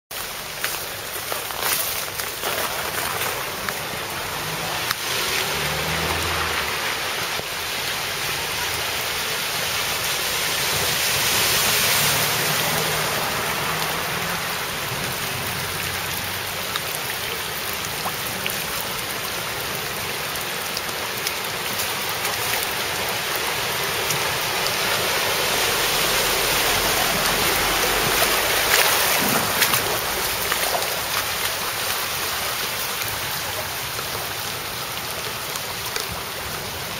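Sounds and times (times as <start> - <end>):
floodwater rushing: 0.1 - 36.9.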